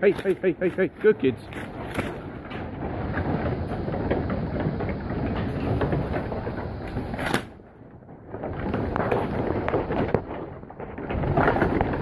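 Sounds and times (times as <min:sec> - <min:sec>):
sheep hooves clattering on boards: 0:00.0 - 0:12.0.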